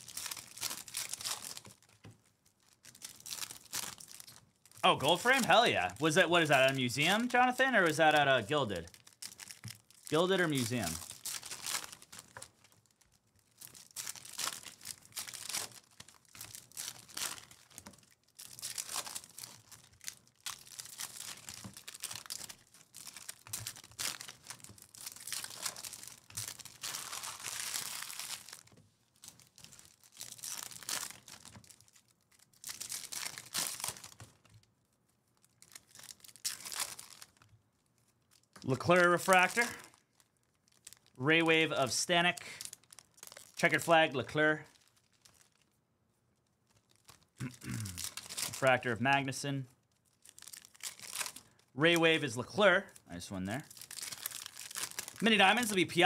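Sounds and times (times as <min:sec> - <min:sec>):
foil wrappers crinkling and tearing: 0:00.0 - 0:45.8, 0:46.4 - 0:56.0.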